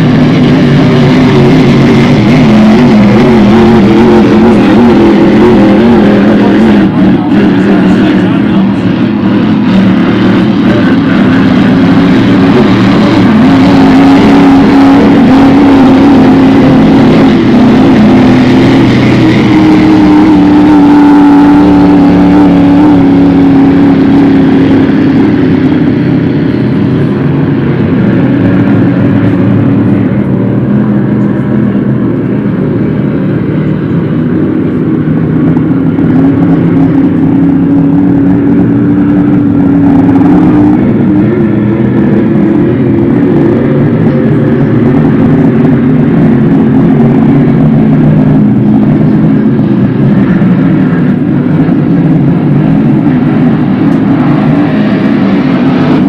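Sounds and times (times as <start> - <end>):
racing boat engines droning: 0.0 - 56.0.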